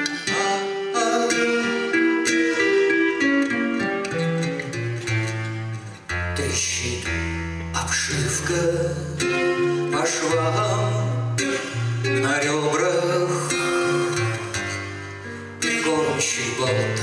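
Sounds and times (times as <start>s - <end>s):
man singing: 0.0s - 3.8s, 6.2s - 17.0s
acoustic guitar chords: 0.0s - 17.0s.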